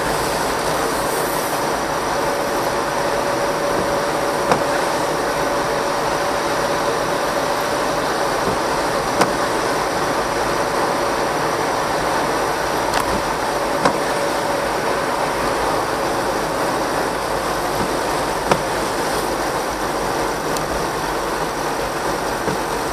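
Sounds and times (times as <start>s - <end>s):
car road noise from inside: 0.0s - 22.9s
tyre hiss on wet road: 0.0s - 22.9s.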